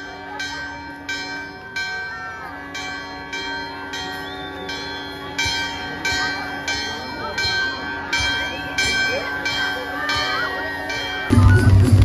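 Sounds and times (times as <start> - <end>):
large bell ringing: 0.0 - 12.0.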